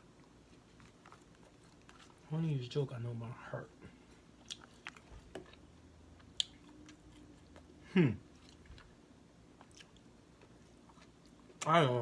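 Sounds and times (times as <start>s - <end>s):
man chewing: 0.0s - 2.2s, 4.0s - 11.7s.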